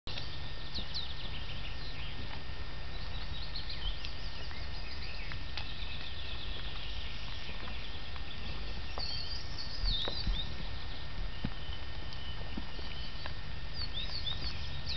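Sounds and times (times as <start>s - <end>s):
small birds chirping: 0.1s - 14.9s
steady low rumble: 0.1s - 14.9s.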